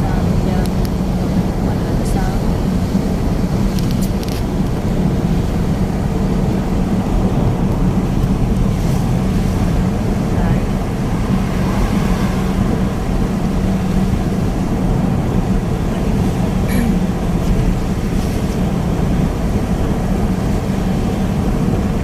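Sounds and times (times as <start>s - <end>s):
continuous rushing noise: 0.0s - 22.0s
vehicle engine humming: 0.0s - 22.0s.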